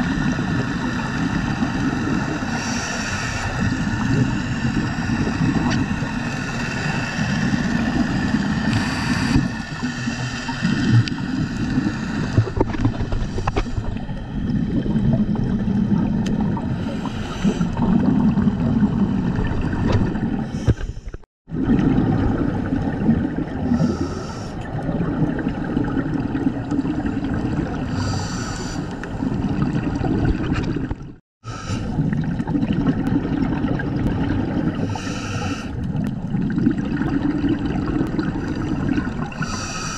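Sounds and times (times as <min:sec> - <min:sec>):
divers exhaling bubbles: 0:00.0 - 0:39.9.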